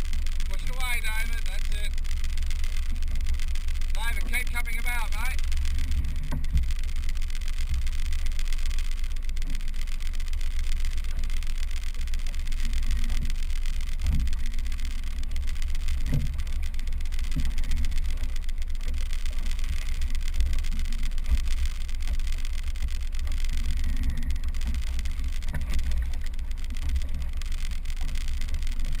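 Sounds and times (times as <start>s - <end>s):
outboard motor: 0.0s - 29.0s
water hissing along hull: 0.0s - 29.0s
wind rumble on microphone: 0.0s - 29.0s.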